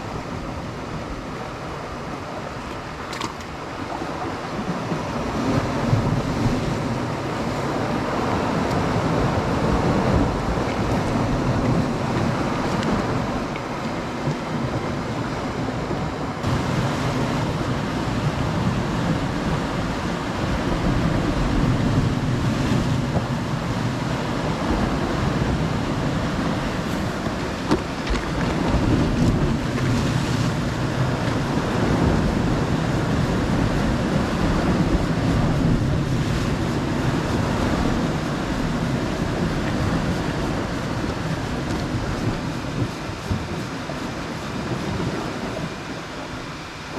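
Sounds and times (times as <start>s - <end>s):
sea waves washing on rocky shore: 0.0s - 46.9s
wind buffeting the microphone: 0.0s - 46.9s.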